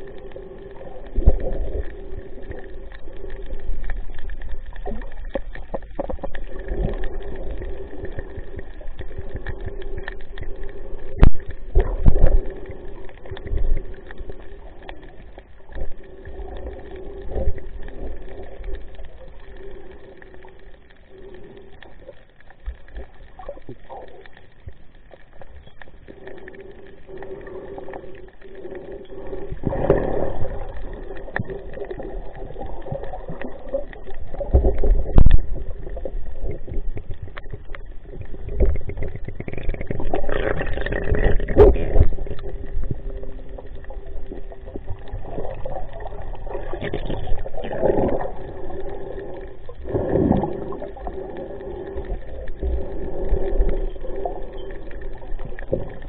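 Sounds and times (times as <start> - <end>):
faint hum: 0.0 - 56.0
muffled water sloshing: 0.0 - 56.0.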